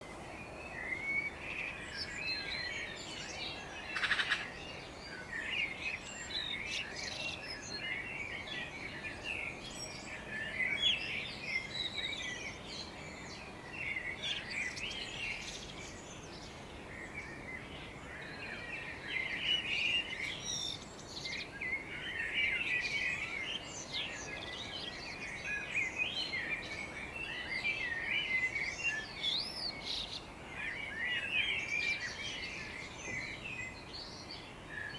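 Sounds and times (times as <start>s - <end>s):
faint background hiss: 0.0s - 34.9s
songbirds chirping and singing: 0.0s - 34.9s.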